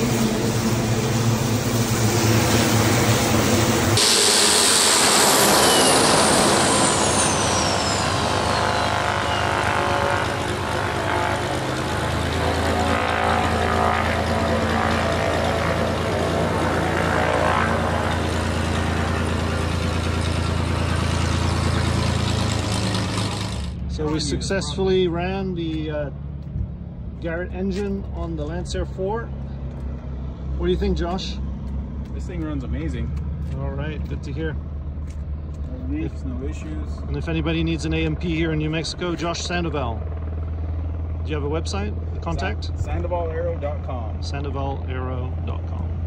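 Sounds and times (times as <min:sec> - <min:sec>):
turboprop engine turbine whine: 0:00.0 - 0:46.0.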